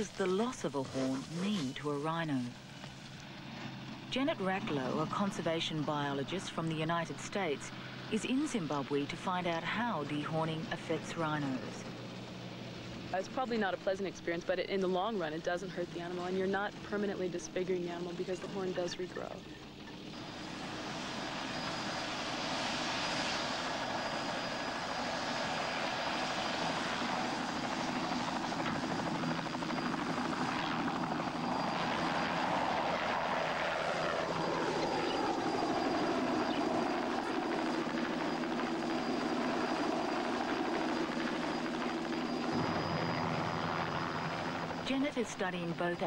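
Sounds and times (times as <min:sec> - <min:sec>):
helicopter passing overhead: 0:00.0 - 0:46.0.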